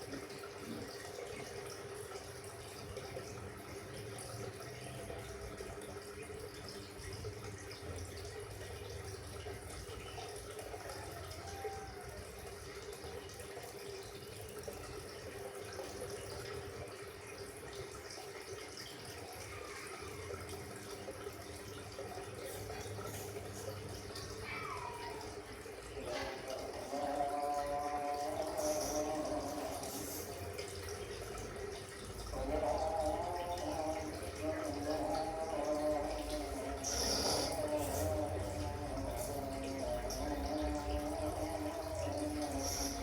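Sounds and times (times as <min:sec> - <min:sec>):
water running: 0:00.0 - 0:43.0.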